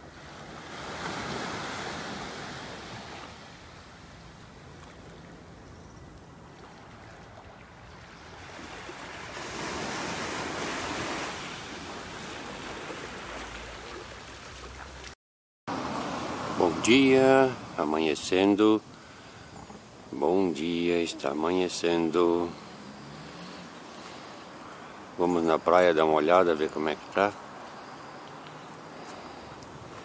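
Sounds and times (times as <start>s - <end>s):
small waves washing on beach: 0.0s - 5.5s, 6.4s - 30.0s.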